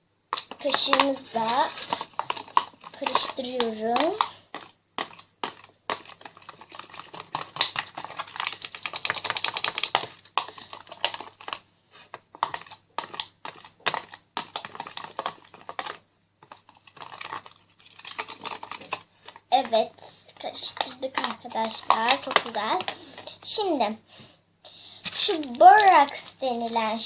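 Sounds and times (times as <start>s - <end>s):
spoon stirring and scraping bowl: 0.4s - 23.6s.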